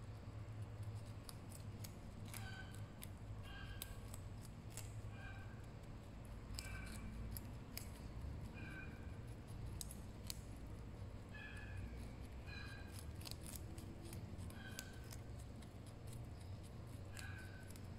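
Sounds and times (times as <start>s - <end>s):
rabbits crunching carrots: 0.2s - 17.9s.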